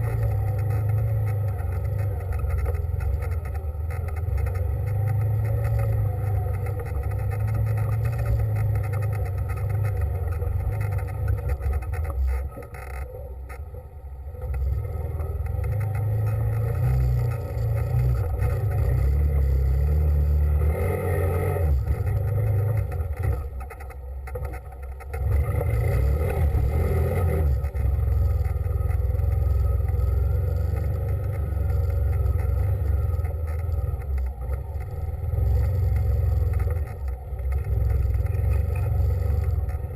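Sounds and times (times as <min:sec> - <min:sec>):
vehicle engine driving: 0:00.0 - 0:39.9.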